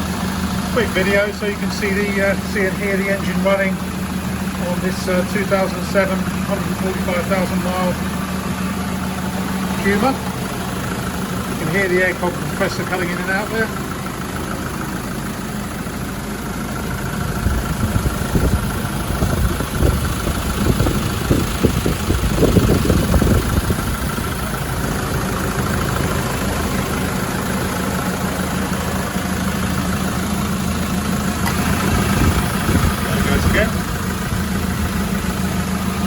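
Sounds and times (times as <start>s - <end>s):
diesel engine idling: 0.0s - 36.0s
air compressor: 3.6s - 36.0s.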